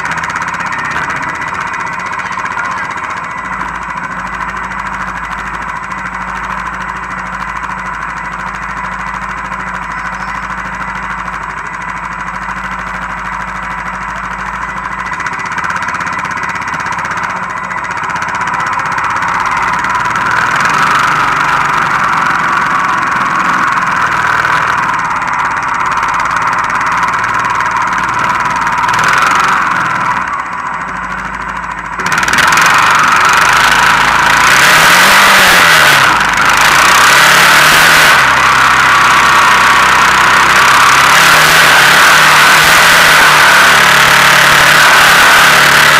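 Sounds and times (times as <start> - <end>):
atv engine running under load: 0.0 - 45.9.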